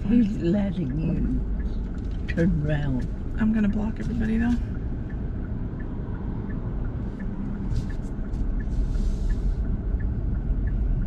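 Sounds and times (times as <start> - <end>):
car turn signal ticking: 0.0 - 11.0
engine rumble and road noise: 0.0 - 11.0.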